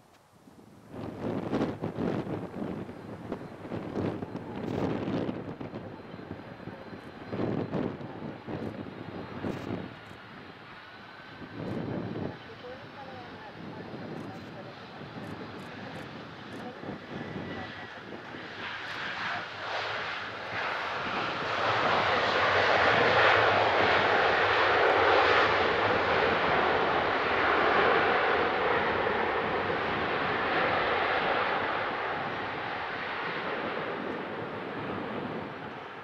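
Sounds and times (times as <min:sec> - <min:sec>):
jet engines roaring: 0:01.0 - 0:36.0.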